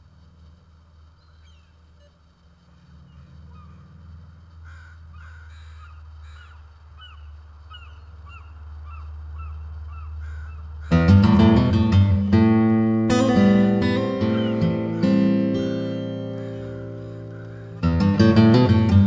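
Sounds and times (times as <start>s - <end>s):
low outdoor rumble: 0.0s - 19.0s
bird calling: 1.1s - 19.0s.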